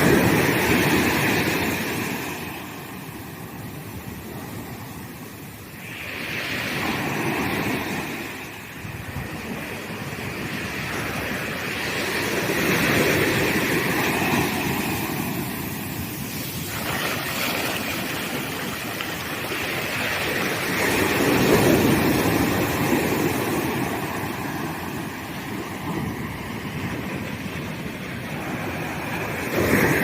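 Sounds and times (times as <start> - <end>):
ocean surf breaking on sand: 0.0 - 30.0.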